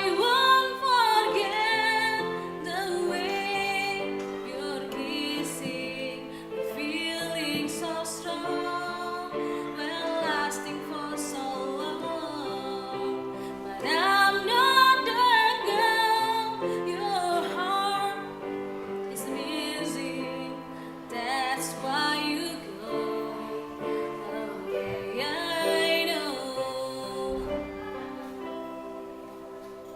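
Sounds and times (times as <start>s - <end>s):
woman singing classical style: 0.0s - 29.9s.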